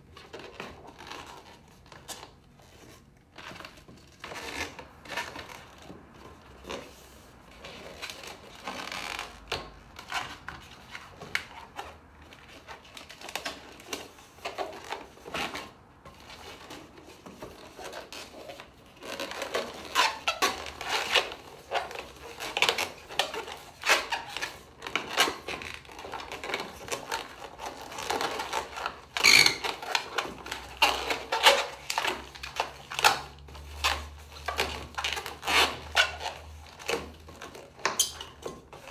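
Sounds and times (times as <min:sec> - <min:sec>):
balloon squeaking and rubbing: 0:00.0 - 0:38.9.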